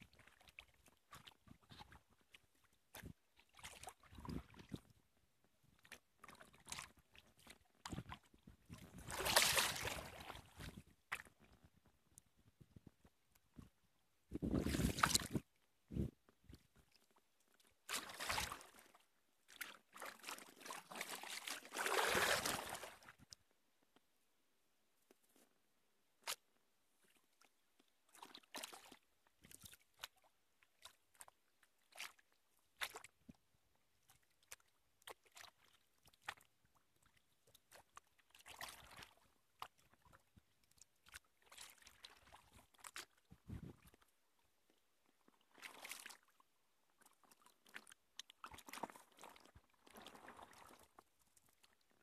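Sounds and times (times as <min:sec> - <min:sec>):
paddle splashes and drips: 0:00.1 - 0:05.0, 0:05.7 - 0:11.8, 0:14.4 - 0:23.4, 0:27.0 - 0:33.3, 0:33.9 - 0:44.1, 0:44.7 - 0:52.0.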